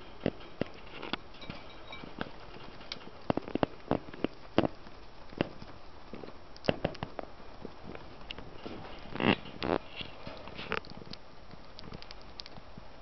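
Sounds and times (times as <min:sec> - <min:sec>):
beaks pecking and cracking food: 0:00.0 - 0:13.0.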